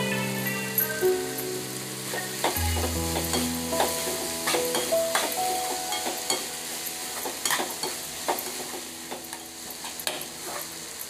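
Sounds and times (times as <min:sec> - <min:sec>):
frying sizzle: 0:00.0 - 0:11.0.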